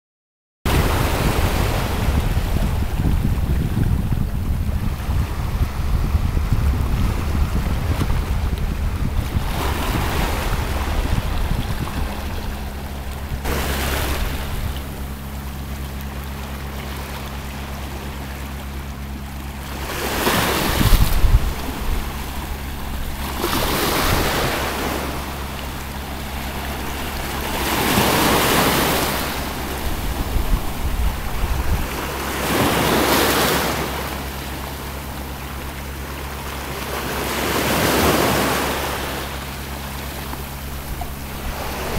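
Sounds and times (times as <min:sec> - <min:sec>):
waves breaking on a beach: 0:00.7 - 0:41.9
wind rumbling on microphone: 0:00.7 - 0:41.9.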